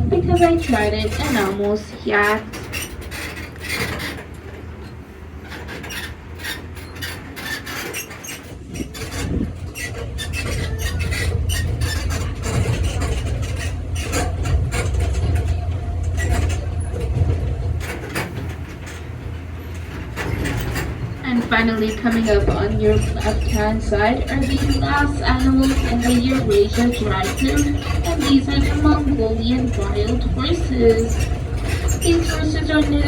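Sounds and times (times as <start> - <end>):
rattles and clicks: 0.0 - 33.0
vehicle engine rumble: 0.0 - 33.0.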